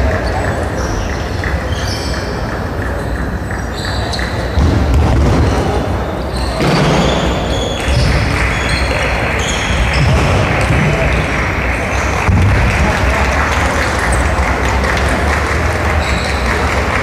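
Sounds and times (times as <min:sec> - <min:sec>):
echoing sports hall din: 0:00.0 - 0:17.0.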